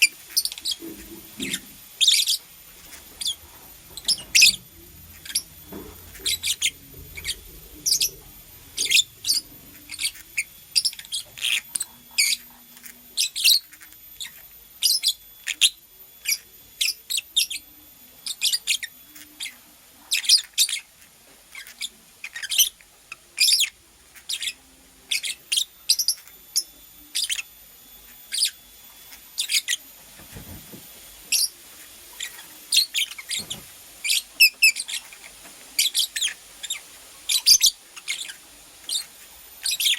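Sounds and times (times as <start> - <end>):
lovebird chirping: 0.0 - 20.9, 21.5 - 29.9, 31.3 - 39.9.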